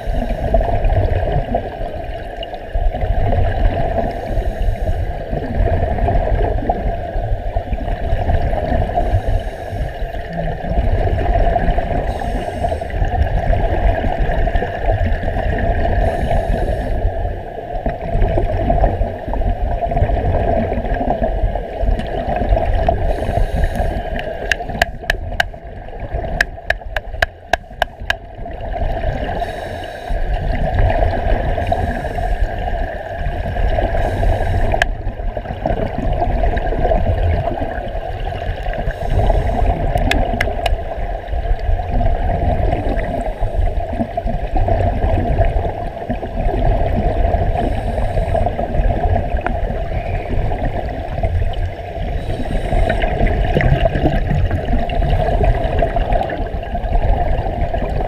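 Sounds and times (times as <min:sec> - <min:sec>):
underwater rushing and gurgling: 0:00.0 - 0:58.0.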